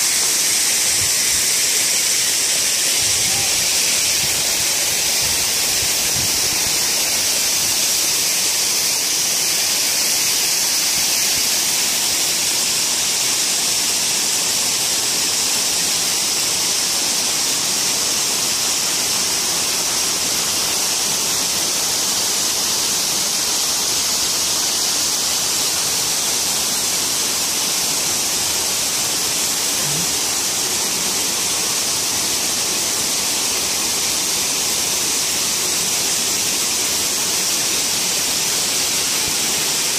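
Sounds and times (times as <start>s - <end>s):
water rushing in cascade: 0.0s - 39.9s.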